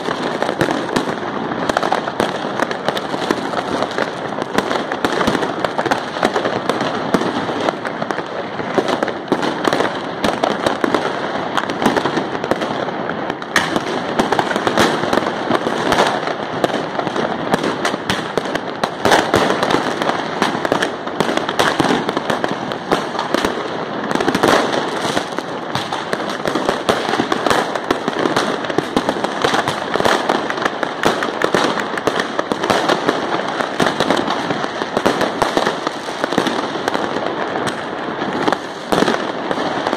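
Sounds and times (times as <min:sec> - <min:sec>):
fireworks and firecrackers exploding: 0:00.0 - 0:39.9.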